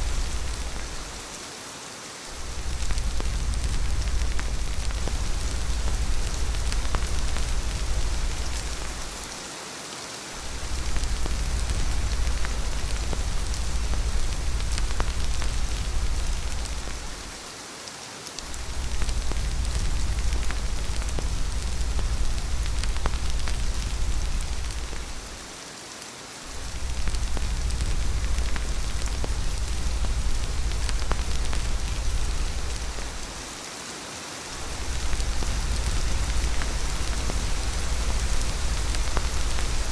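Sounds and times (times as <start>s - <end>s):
deep rumble: 0.0s - 1.2s, 2.3s - 9.3s, 10.4s - 17.4s, 18.4s - 25.4s, 26.5s - 33.5s, 34.6s - 39.9s
steady rain falling: 0.0s - 39.9s.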